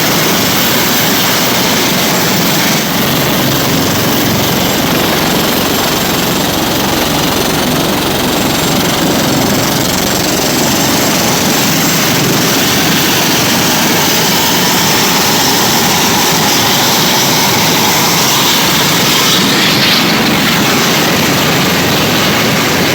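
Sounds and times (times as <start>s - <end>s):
helicopter engine and rotor: 0.0s - 22.9s.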